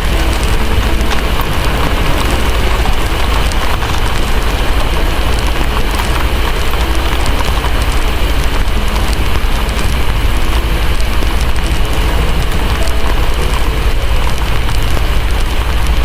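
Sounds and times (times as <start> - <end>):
deep low rumble: 0.0 - 16.0
heavy rain: 0.0 - 16.0
wood fire crackling: 0.0 - 16.0.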